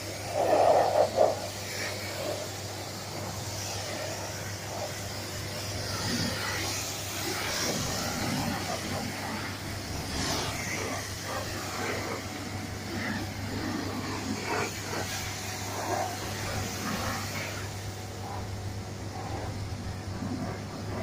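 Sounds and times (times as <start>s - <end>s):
constant low hum: 0.0s - 21.0s
high-pressure water spray hissing: 0.0s - 21.0s.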